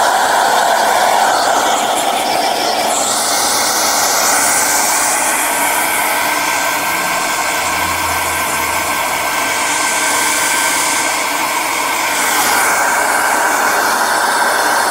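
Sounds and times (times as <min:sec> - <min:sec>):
hair dryer running: 0:00.0 - 0:14.9.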